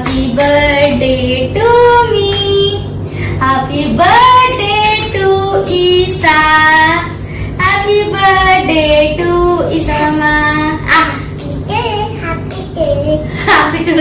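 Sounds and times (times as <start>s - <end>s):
woman and child singing: 0.0s - 11.7s.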